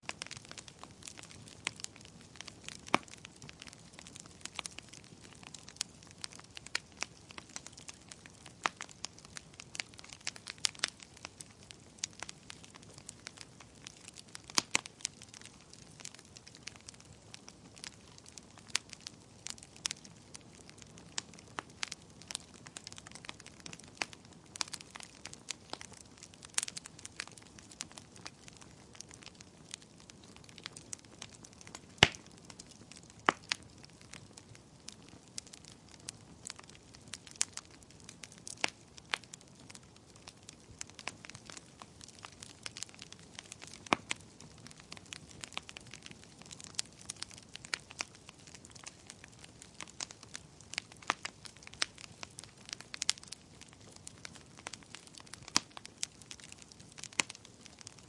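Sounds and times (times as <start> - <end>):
wood crackling and popping: 0.0 - 58.0.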